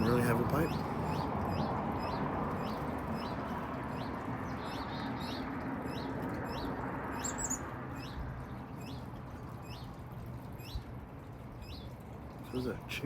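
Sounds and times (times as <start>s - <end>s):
songbird chirping: 0.0s - 12.7s.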